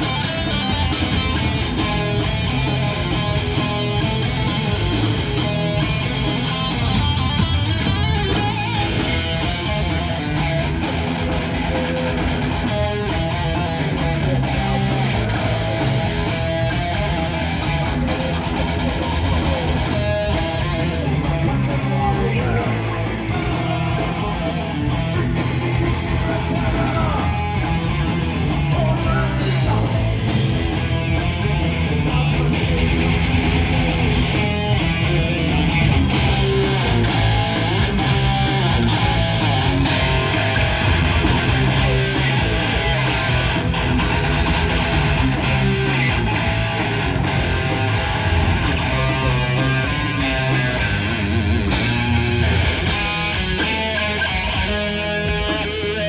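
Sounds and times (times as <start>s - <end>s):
bass and drums: 0.0s - 56.0s
heavy metal band playing: 0.0s - 56.0s
loud electric guitars: 0.0s - 56.0s.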